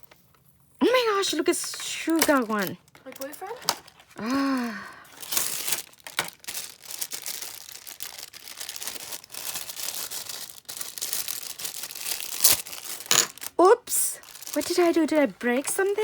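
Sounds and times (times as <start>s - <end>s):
plastic packaging crinkling and tearing: 0.8s - 16.0s.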